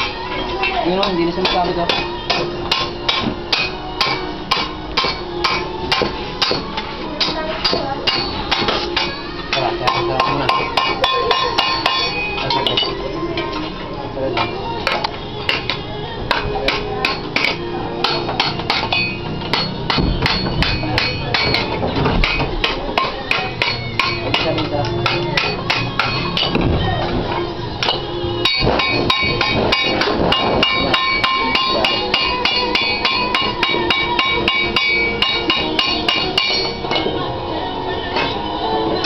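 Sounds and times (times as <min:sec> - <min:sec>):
hammer striking sheet metal: 0:01.0 - 0:06.6, 0:07.2 - 0:12.9, 0:14.9 - 0:26.7, 0:27.8 - 0:37.1.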